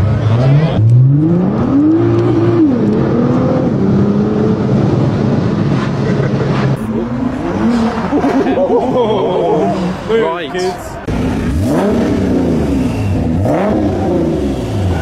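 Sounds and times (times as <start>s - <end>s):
car engine accelerating hard: 0.0s - 10.1s, 11.0s - 15.0s.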